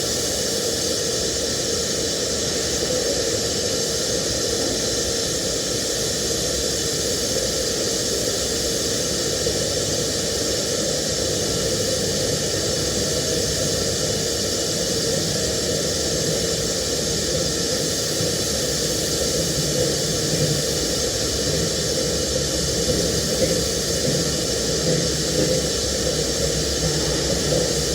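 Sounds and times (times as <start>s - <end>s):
welding arc hissing: 0.0s - 27.9s.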